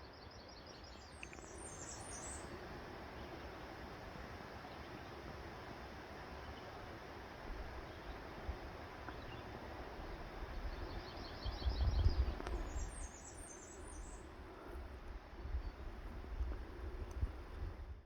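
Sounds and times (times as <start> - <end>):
songbirds singing: 0.0 - 5.7, 7.6 - 16.6.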